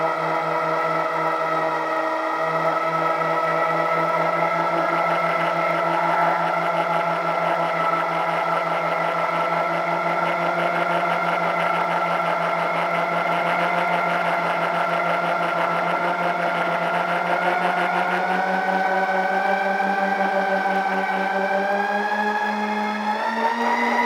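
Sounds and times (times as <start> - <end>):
electric motors and propellers whining: 0.0 - 24.0.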